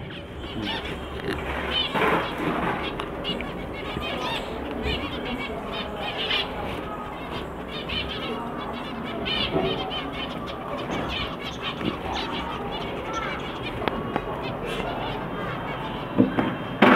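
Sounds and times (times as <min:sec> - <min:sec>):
finches chirping: 0:00.0 - 0:16.8.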